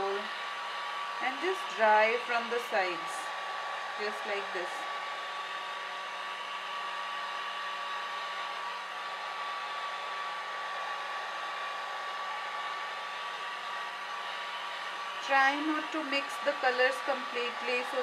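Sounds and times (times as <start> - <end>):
hair dryer blowing air: 0.0 - 18.0.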